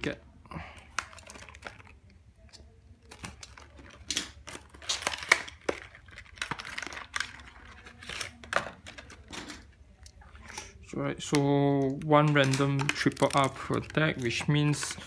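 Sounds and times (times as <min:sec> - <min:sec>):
packaging crinkling and rustling: 0:00.8 - 0:15.0.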